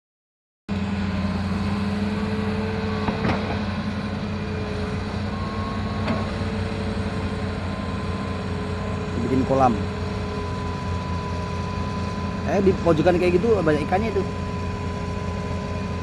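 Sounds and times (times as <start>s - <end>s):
diesel engine running: 0.7s - 16.0s.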